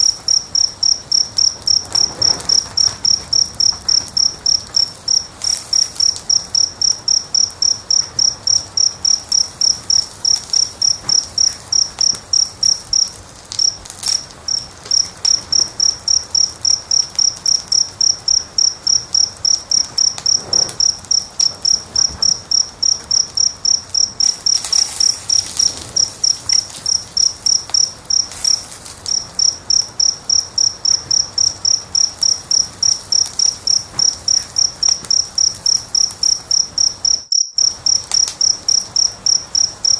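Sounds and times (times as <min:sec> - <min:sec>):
cricket chirping: 0:00.0 - 0:39.9
fire crackling and popping: 0:00.0 - 0:39.9.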